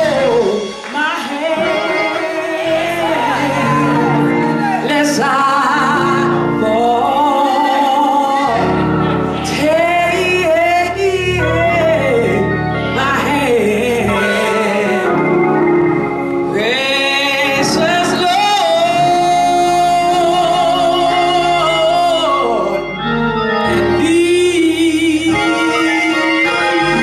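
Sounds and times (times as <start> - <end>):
woman singing gospel: 0.0 - 15.6, 16.4 - 27.0
organ accompaniment: 0.0 - 27.0.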